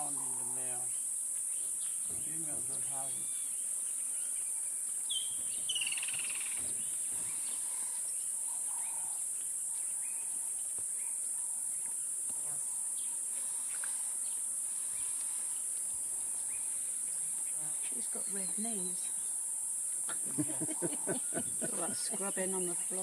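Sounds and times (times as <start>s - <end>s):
faint bird chirps: 0.0s - 23.0s
insect chorus drone: 0.0s - 23.0s.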